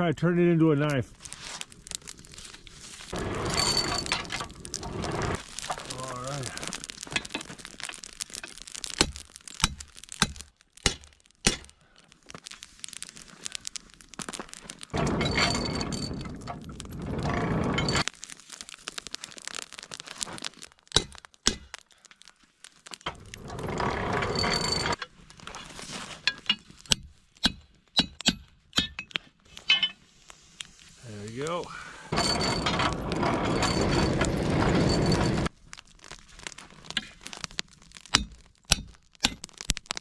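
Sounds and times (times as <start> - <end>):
charcoal lumps clicking and knocking: 0.8 - 29.9, 35.4 - 40.0.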